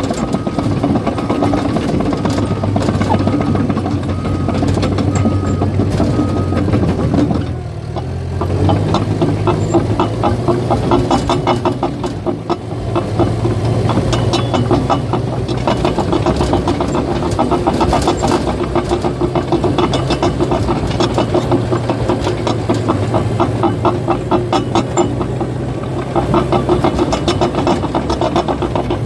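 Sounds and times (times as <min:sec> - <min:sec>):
diesel engine running: 0:00.0 - 0:29.0
steel tracks clattering: 0:00.0 - 0:29.0.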